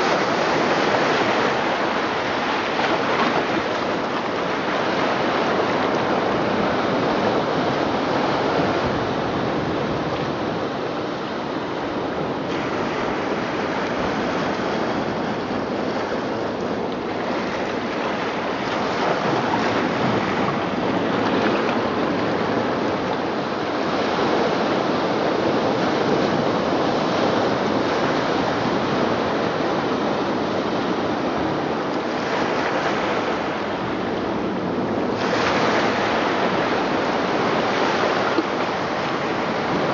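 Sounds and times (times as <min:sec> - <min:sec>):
ocean waves over loudspeakers: 0:00.0 - 0:39.9.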